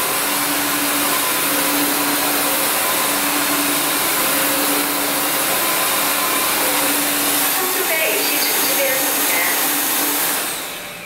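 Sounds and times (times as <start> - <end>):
vacuum mop suction rush: 0.0 - 11.0
vacuum motor hum: 0.0 - 11.0.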